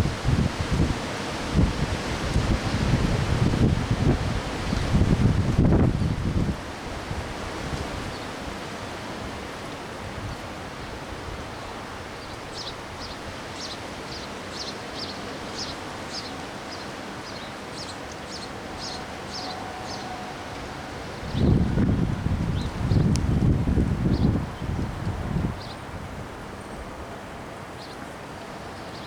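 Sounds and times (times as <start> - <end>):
rustling leaves: 0.0 - 29.0
wind: 0.0 - 29.0.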